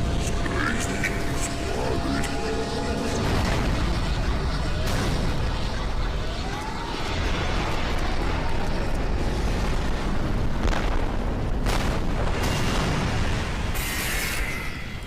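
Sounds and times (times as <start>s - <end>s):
rumble of explosions: 0.0s - 15.0s.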